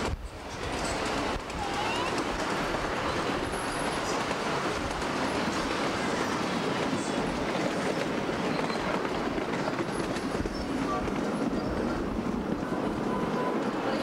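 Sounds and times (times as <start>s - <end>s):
miniature train rumbling on track: 0.0s - 14.0s.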